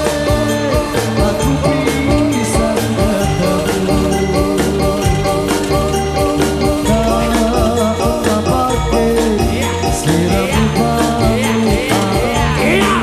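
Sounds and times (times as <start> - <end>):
melody over bass and beat: 0.0 - 13.0.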